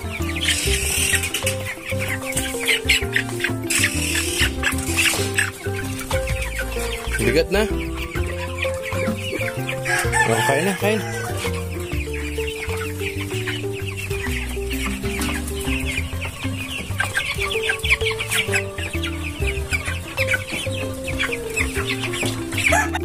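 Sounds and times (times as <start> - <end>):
chicks cheeping: 0.0 - 23.0
plucked melody music: 0.0 - 23.0.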